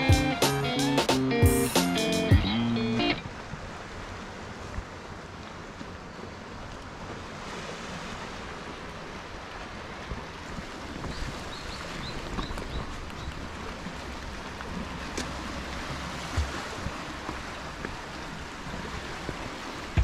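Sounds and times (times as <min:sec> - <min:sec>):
sea surf washing: 0:00.0 - 0:05.1, 0:07.1 - 0:20.0.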